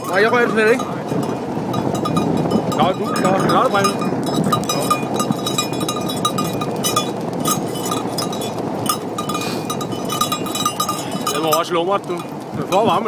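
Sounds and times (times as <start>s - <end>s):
tyres rumbling on road: 0.0s - 13.0s.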